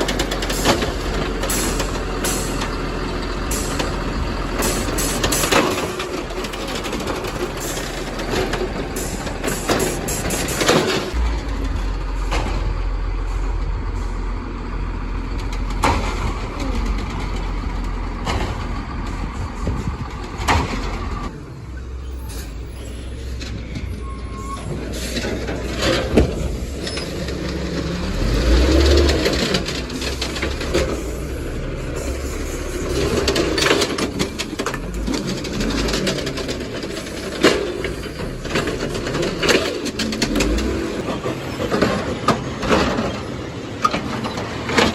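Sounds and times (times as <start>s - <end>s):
metal bangs and clanks: 0.0s - 14.2s, 15.4s - 21.3s, 24.6s - 44.9s
garbage truck engine running: 0.0s - 44.9s.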